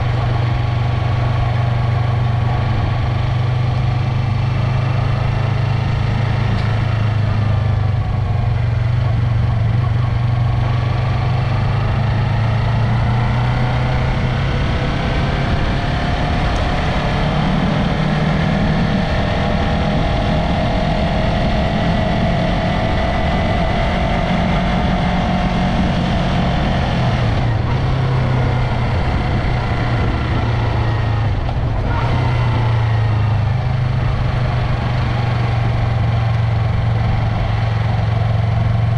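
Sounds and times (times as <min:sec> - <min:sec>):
motorcycle engine and exhaust running: 0:00.0 - 0:38.9.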